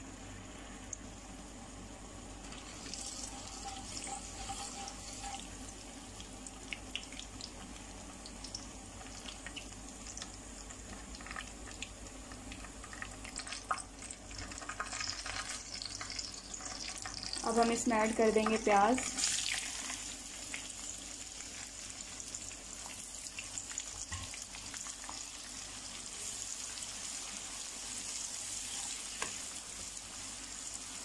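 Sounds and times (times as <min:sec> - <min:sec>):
seeds sizzling in hot oil: 0:00.0 - 0:31.0.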